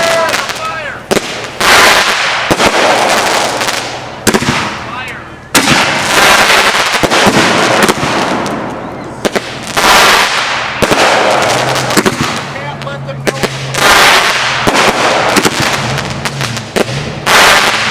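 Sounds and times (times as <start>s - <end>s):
fireworks bangs: 0.0s - 17.9s
fireworks crackling: 0.0s - 17.9s.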